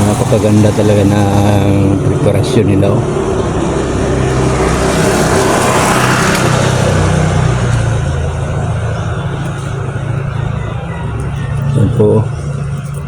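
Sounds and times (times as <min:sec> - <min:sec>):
passing traffic rushing: 0:00.0 - 0:13.0
vehicle engine running: 0:00.0 - 0:13.0.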